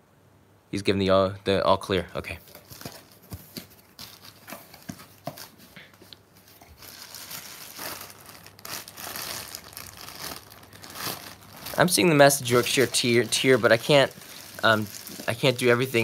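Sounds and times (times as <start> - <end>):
plastic bag crinkling: 2.6 - 5.7, 6.3 - 16.0.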